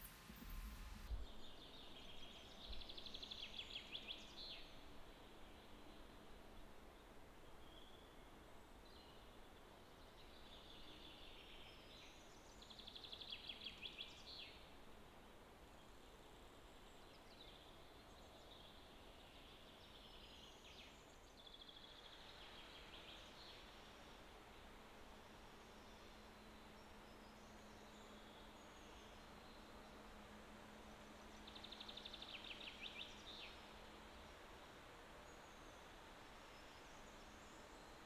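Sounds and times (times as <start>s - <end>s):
distant songbirds singing: 0.0s - 38.0s
outdoor background hiss: 0.0s - 38.0s.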